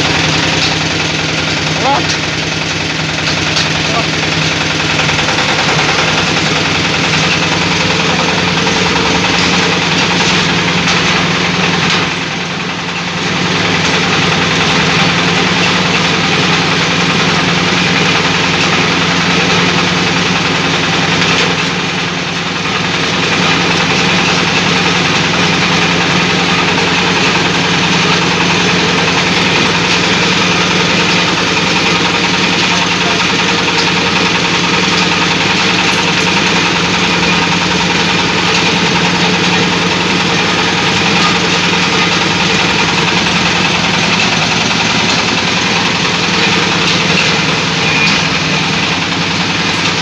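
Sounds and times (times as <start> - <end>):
meat grinder running: 0.0 - 50.0.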